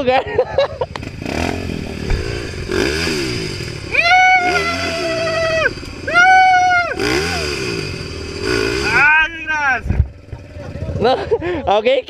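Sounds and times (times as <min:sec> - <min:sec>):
dirt bike engine revving: 0:00.0 - 0:11.5
engine running unevenly: 0:00.4 - 0:11.7.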